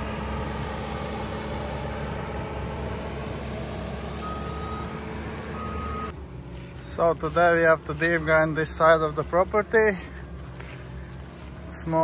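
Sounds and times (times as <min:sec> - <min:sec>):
loader engine running: 0:00.0 - 0:12.0.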